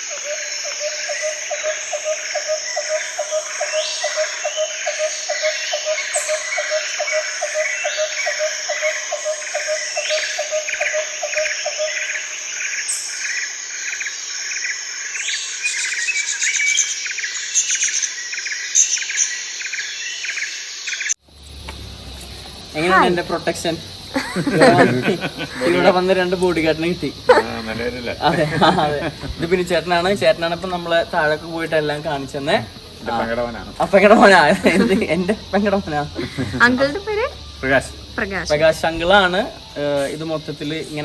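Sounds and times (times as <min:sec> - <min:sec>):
birds calling and chirping: 0:00.0 - 0:41.0
high insect drone: 0:00.0 - 0:41.0.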